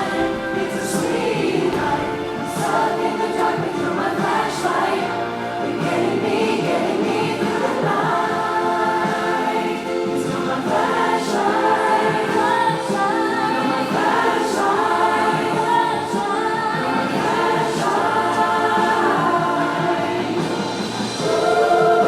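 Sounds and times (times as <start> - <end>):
vocal ensemble singing in harmony: 0.0 - 22.0.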